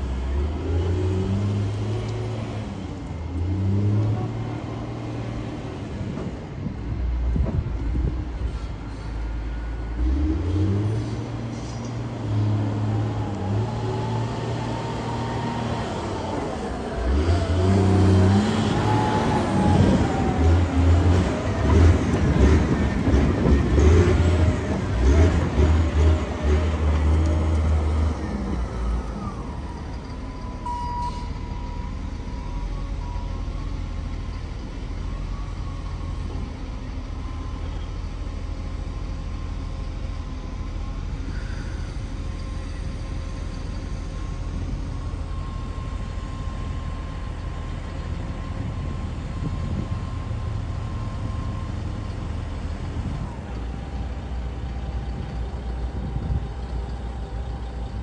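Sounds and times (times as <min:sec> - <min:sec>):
heavy vehicle engine rumbling: 0:00.0 - 0:58.0.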